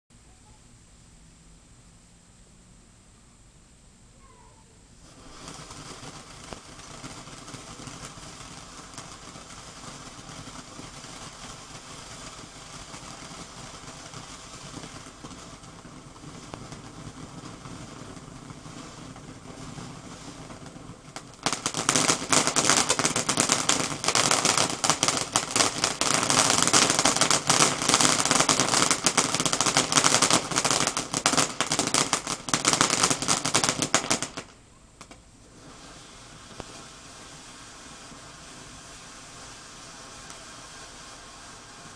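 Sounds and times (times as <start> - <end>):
firework crackling: 4.2 - 41.9
firework sparks hissing: 4.9 - 41.9.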